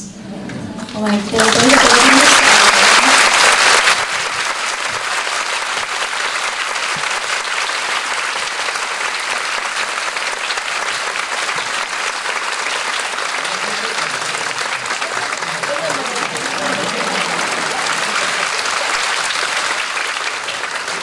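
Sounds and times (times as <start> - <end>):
audience applauding: 0.8 - 21.0.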